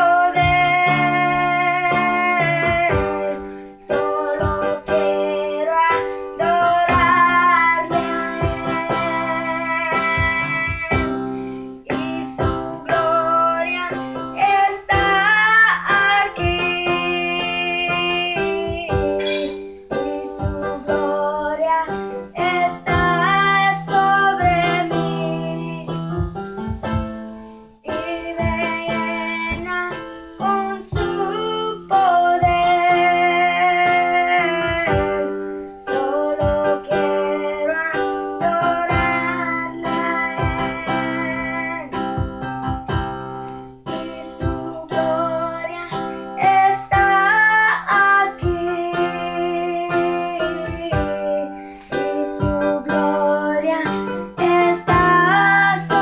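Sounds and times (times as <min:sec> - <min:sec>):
drum backing rhythm: 0:00.0 - 0:56.0
electronic keyboard melody: 0:00.0 - 0:56.0.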